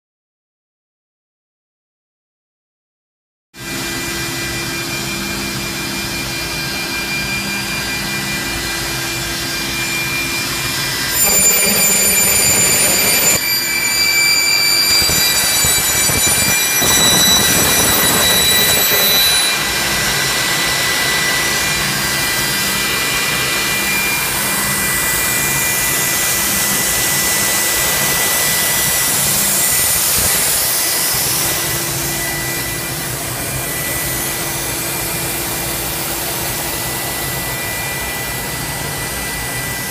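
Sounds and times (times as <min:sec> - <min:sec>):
high machine whining tones: 0:03.7 - 0:39.9
machine humming and blowing: 0:03.7 - 0:39.9.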